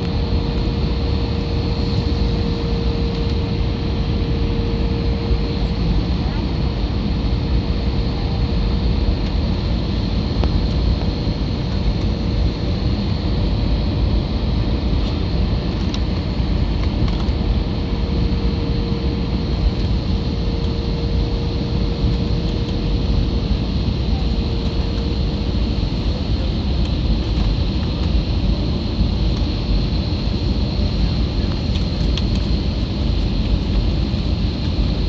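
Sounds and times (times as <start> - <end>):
airliner cabin engine roar: 0.0 - 35.0.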